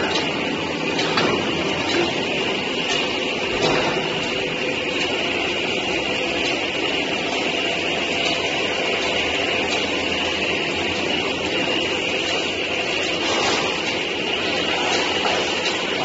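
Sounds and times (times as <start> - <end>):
machine drone with high whine: 0.0 - 16.0.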